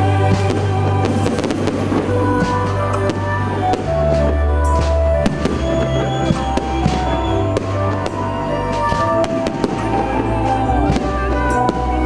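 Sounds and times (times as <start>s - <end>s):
fireworks bursting: 0.0s - 12.0s
music playing: 0.0s - 12.0s.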